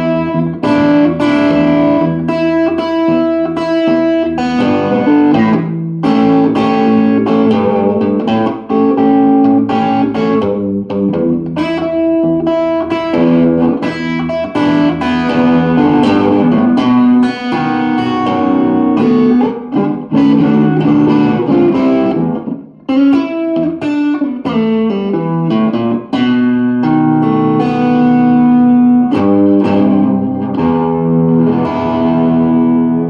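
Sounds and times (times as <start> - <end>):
electric guitar melody: 0.0 - 33.0.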